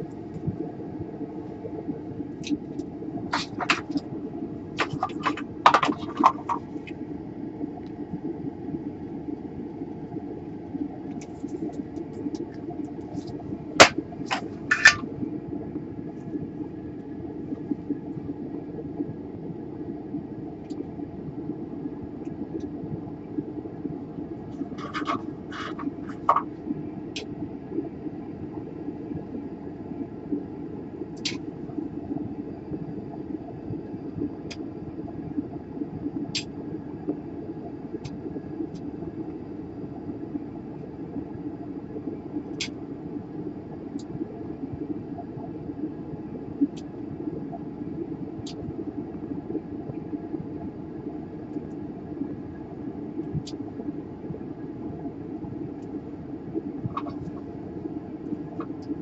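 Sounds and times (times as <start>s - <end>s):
low hum of bench equipment: 0.0s - 59.0s.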